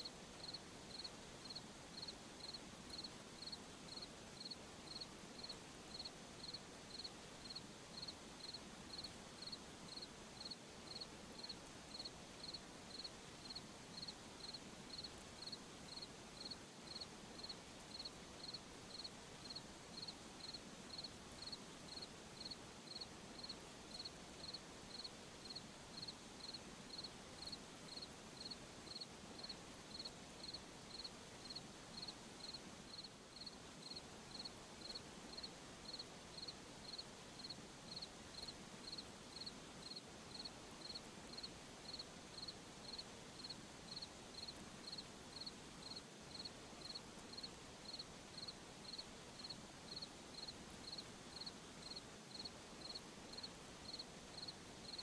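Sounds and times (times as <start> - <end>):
faint steady hiss: 0.0 - 55.0
cricket chirping: 0.4 - 55.0.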